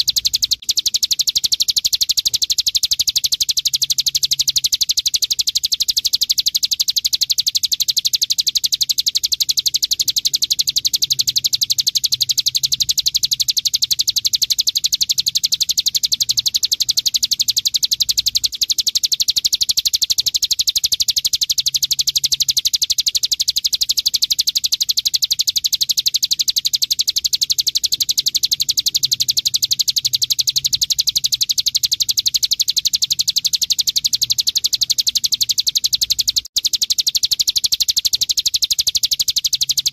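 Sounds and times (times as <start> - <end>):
bird rattling song: 0.0 - 39.9.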